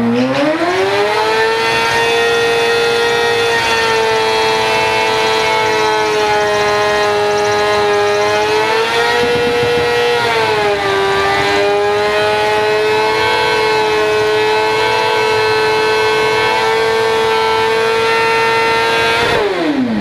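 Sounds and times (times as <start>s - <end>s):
motorcycle engine high-pitched wail: 0.0s - 20.0s.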